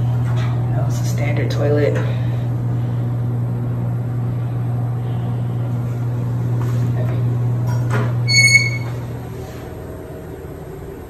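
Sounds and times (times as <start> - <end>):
exhaust fan humming: 0.0 - 11.0.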